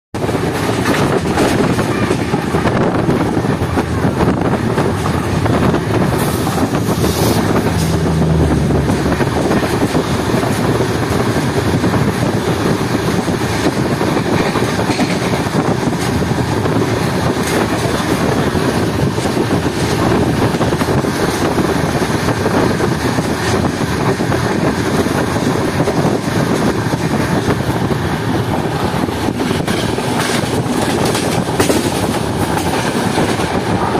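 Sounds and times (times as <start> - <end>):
train wheels on rails: 0.1 - 33.9
wind: 0.1 - 33.9
train passing alongside: 0.2 - 33.9.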